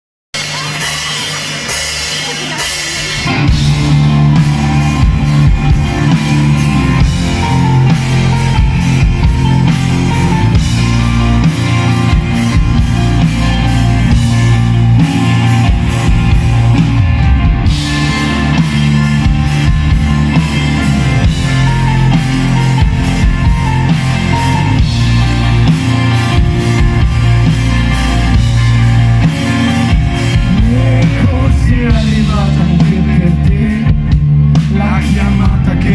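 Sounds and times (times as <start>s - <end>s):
rock band playing live: 0.3s - 35.9s.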